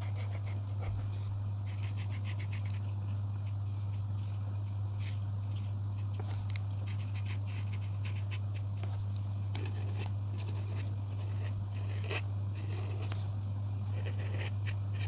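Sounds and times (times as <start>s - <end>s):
coloring tool scratching paper: 0.0s - 3.6s, 5.0s - 15.0s
steady low hum: 0.0s - 15.0s.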